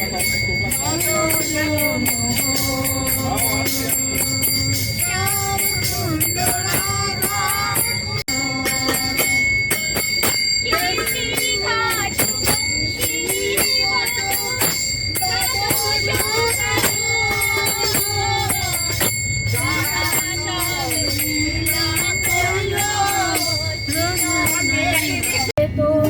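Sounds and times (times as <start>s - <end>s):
background music with jingling bells: 0.0s - 25.6s.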